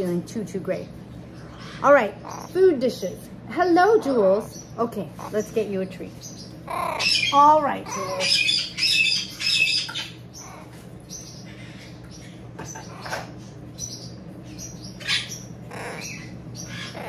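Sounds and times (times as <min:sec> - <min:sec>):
parrot squawking: 0:01.4 - 0:02.8, 0:03.8 - 0:05.6, 0:06.4 - 0:17.0.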